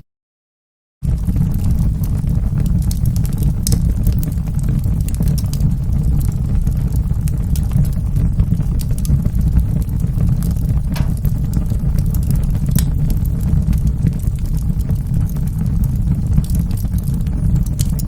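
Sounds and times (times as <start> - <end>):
fire burning: 1.0 - 18.0
fire crackling and popping: 1.0 - 18.0.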